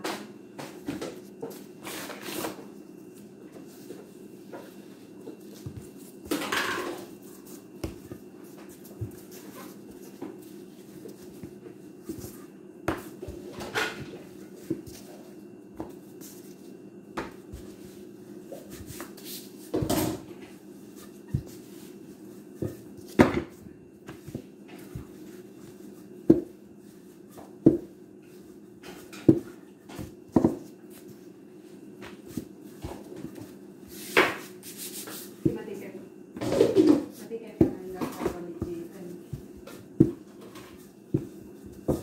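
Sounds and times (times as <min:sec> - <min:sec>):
rolling pin rolling dough: 0:00.0 - 0:42.0
steady low hum: 0:00.0 - 0:42.0.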